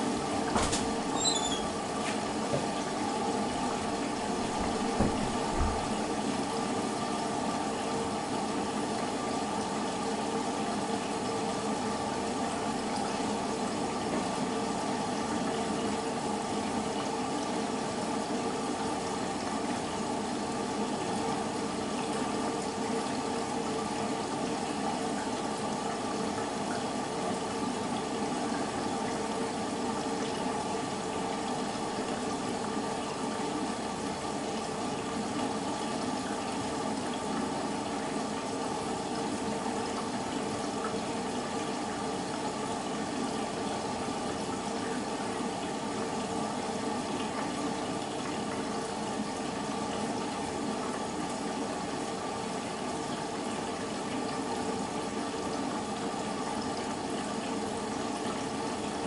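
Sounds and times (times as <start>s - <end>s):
water rushing through washing machine: 0.0s - 59.0s.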